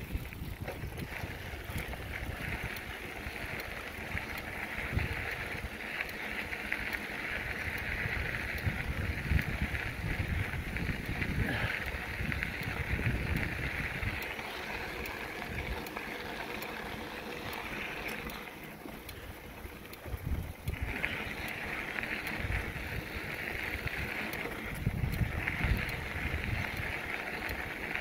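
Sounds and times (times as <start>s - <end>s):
wind buffeting microphone: 0.0s - 5.9s, 6.9s - 17.8s, 19.1s - 28.0s.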